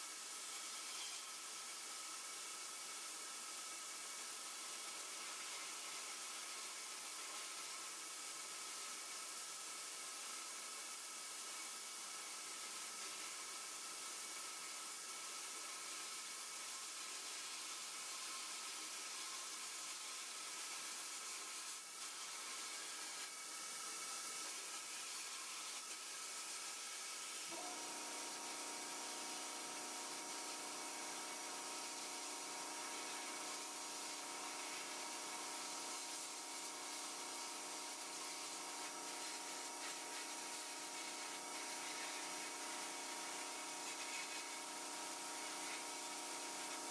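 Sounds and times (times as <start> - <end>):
compressed air blasting hiss: 0.0 - 46.9.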